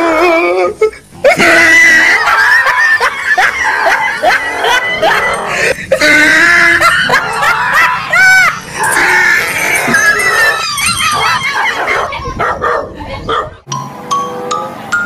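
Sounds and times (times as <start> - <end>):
dog yelping: 1.3 - 13.6.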